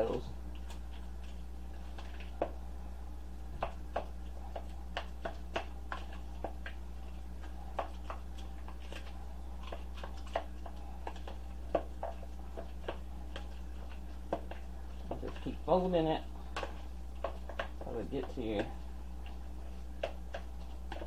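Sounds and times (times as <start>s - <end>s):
fork mashing potato: 0.0s - 2.6s, 3.5s - 21.0s
steady low hum: 0.0s - 21.0s.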